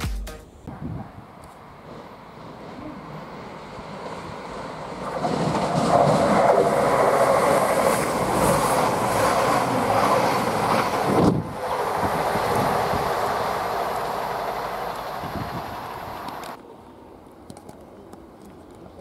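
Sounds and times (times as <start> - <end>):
diesel train running along platform: 0.7 - 17.2.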